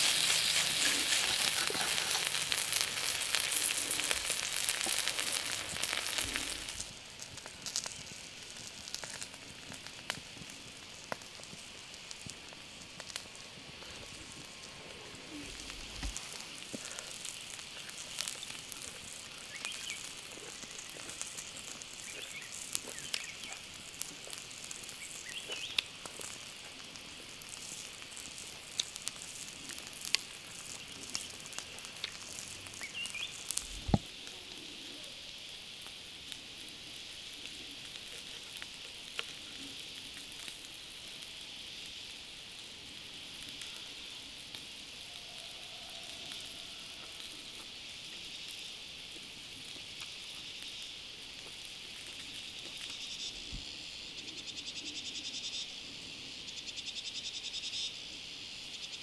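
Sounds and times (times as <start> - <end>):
meat sizzling on a hot surface: 0.0 - 59.0.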